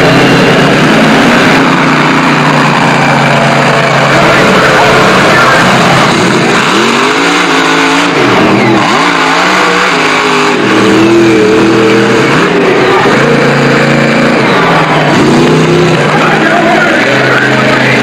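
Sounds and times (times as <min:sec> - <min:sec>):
truck engines revving hard: 0:00.0 - 0:18.0.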